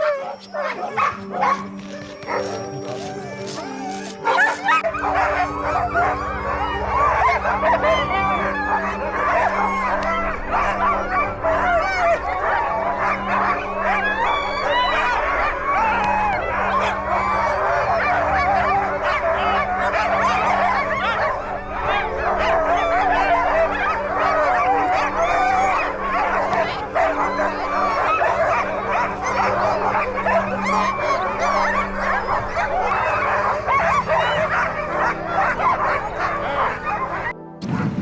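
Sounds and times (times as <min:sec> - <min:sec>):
huskies yipping and howling: 0:00.0 - 0:37.4.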